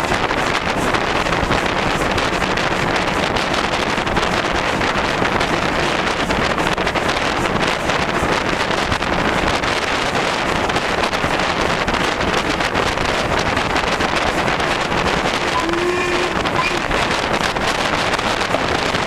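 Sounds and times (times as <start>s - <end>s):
steam locomotive running: 0.0s - 19.0s
wind noise on microphone: 0.0s - 19.0s.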